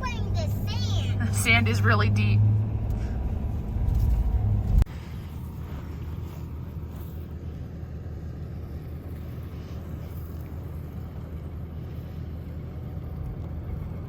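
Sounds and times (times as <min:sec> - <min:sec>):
engine and tyre rumble in cabin: 0:00.0 - 0:14.0.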